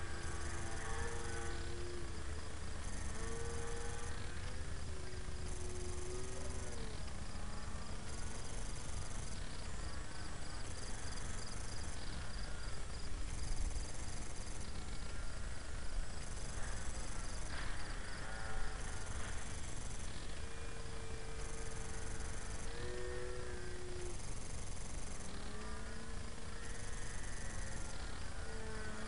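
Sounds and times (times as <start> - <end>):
model plane motor whine: 0.0 - 9.7, 10.3 - 29.0
crickets chirping: 0.0 - 29.0.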